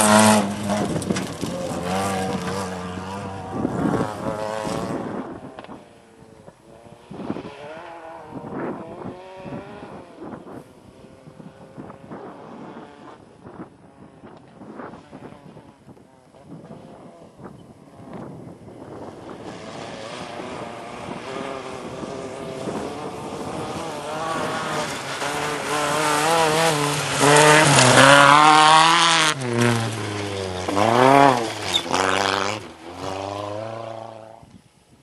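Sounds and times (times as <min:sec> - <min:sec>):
rally car engine at full throttle: 0:00.0 - 0:34.6.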